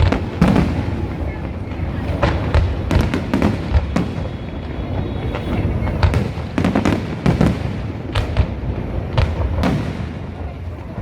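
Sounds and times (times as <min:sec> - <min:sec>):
continuous low rumble: 0:00.0 - 0:11.0
fireworks bangs and crackles: 0:00.0 - 0:11.0.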